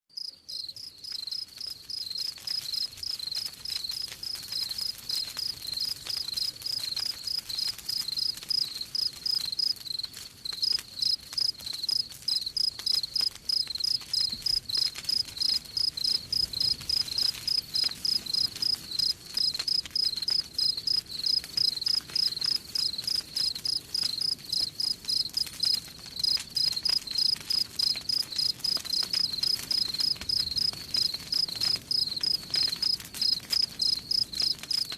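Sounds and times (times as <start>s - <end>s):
crickets chirping: 0.2s - 3.2s, 5.1s - 9.7s, 10.6s - 34.9s
wood fire crackling: 0.2s - 34.9s.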